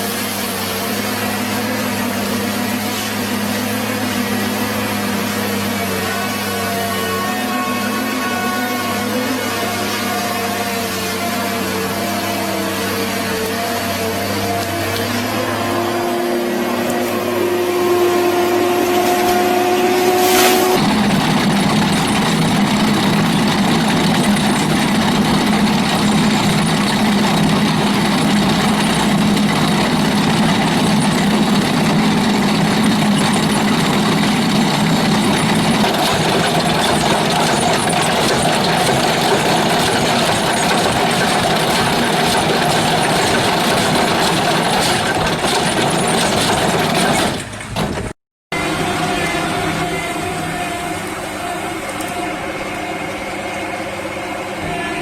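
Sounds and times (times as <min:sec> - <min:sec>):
heavy machinery engine running: 0:00.0 - 0:51.4
two-tone hum: 0:01.1 - 0:55.0.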